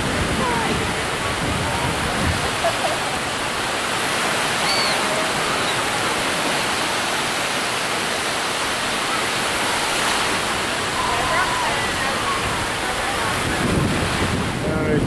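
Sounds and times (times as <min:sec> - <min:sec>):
small waves washing onto beach: 0:00.0 - 0:15.0.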